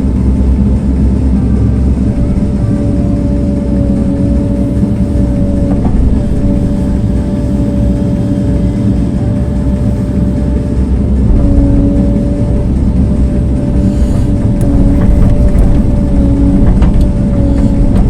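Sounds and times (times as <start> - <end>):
heavy machine engine rumbling: 0.0 - 18.0.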